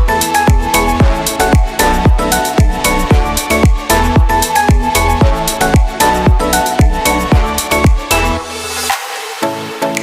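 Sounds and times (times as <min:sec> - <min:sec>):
electronic music with kick drums: 0:00.0 - 0:10.0.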